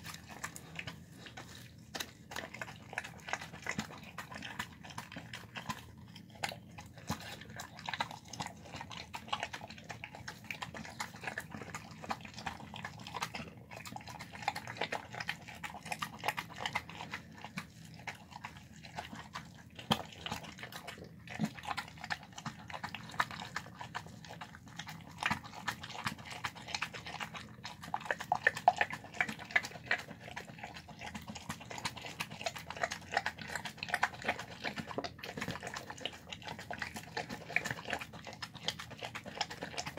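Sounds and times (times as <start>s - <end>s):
dog chewing wetly: 0.0s - 39.9s.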